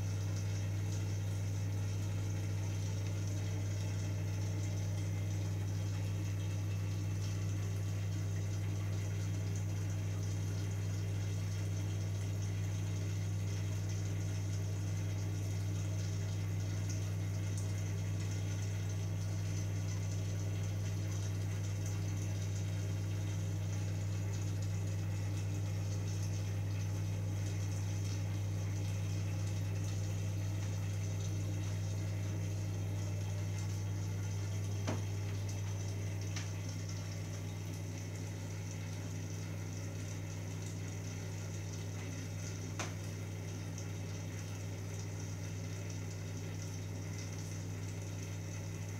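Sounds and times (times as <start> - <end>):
pump humming: 0.0 - 48.9.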